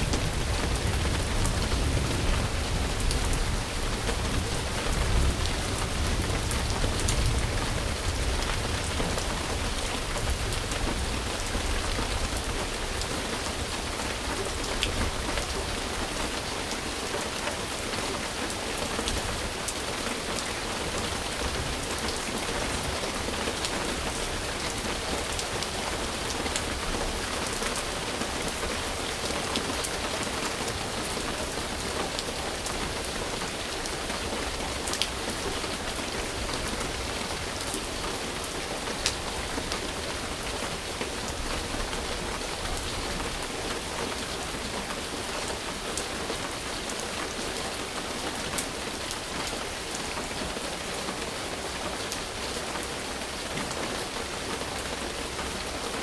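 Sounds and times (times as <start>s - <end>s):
steady rain on a surface: 0.0s - 56.0s.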